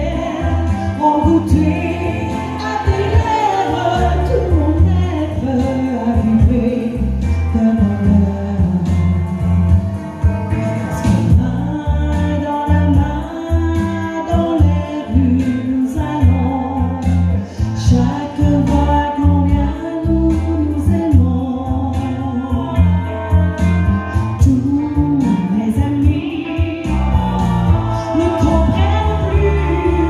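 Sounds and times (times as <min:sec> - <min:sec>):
backing music with bass and drums: 0:00.0 - 0:30.0
woman singing into a microphone: 0:00.0 - 0:30.0.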